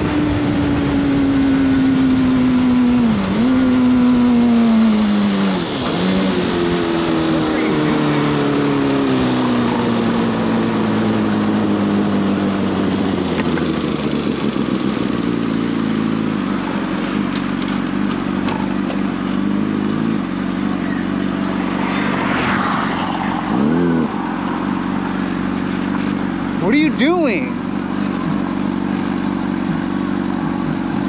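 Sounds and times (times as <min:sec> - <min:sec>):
motorcycle engine: 0:00.0 - 0:31.0.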